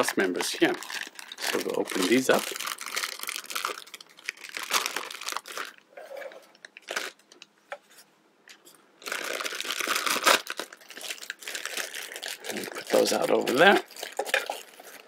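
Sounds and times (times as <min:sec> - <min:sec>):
plastic bag crinkling: 0:00.0 - 0:05.9, 0:06.6 - 0:07.4, 0:09.0 - 0:15.0.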